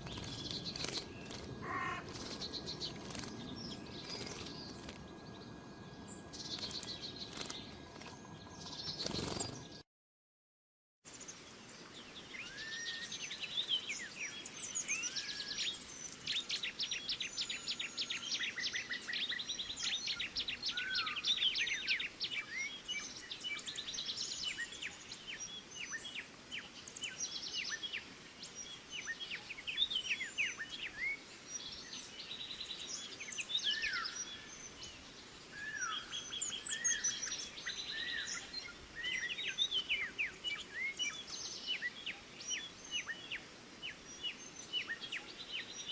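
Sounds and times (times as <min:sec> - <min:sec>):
songbirds chirping and trilling: 0:00.0 - 0:09.8, 0:11.1 - 0:45.9.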